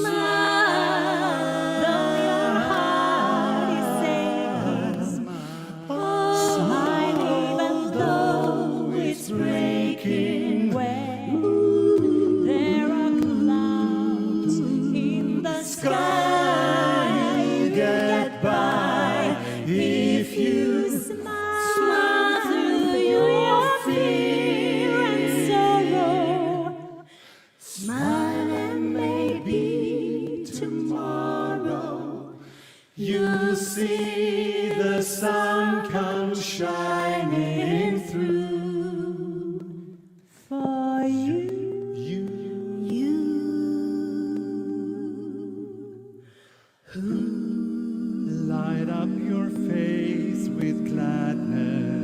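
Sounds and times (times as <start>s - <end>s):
vocal quartet singing in harmony: 0.0s - 52.0s.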